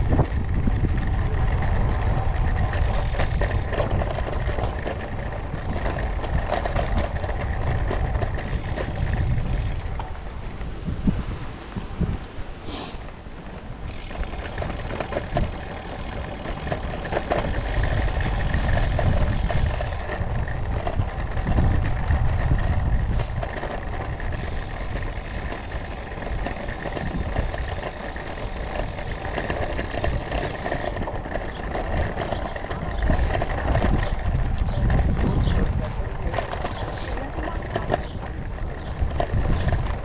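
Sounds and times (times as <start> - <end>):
bike tyres drumming on cobbles: 0.0 - 12.3, 13.3 - 40.0
bike rattling: 0.0 - 40.0.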